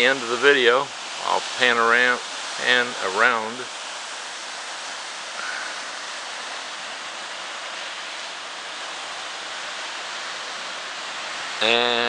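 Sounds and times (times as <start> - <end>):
ocean surf breaking on rocks: 0.0 - 11.8.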